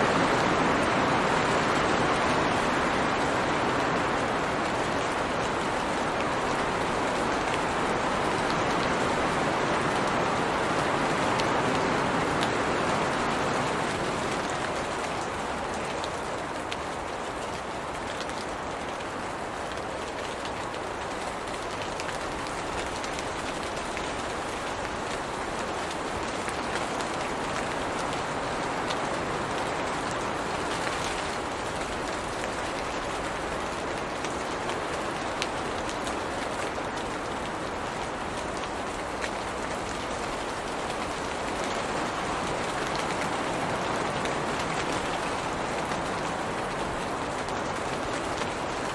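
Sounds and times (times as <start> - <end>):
rain pattering on leaves: 0.0 - 48.9.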